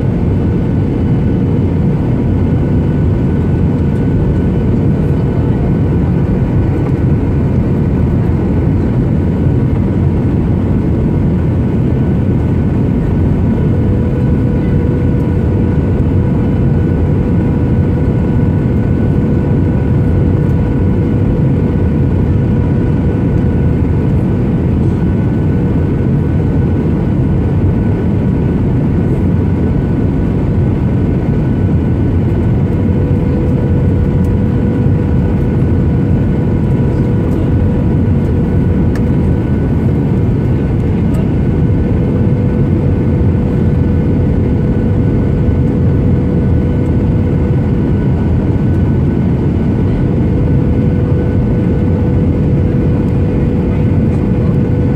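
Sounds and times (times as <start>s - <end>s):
airplane cabin airflow and engines: 0.0s - 54.9s.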